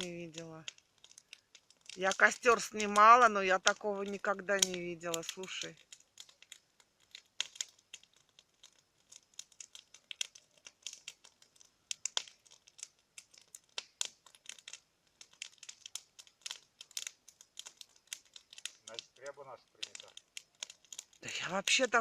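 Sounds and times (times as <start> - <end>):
bonfire crackling and popping: 0.0 - 22.0.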